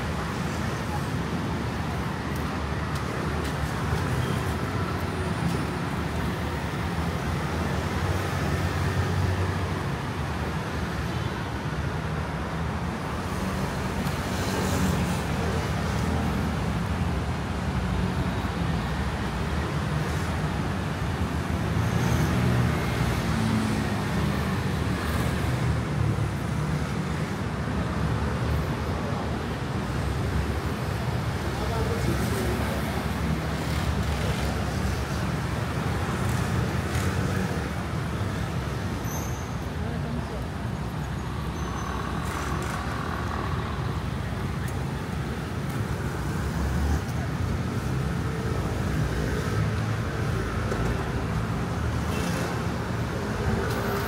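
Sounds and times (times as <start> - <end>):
scooters and cars passing: 0.0 - 54.0.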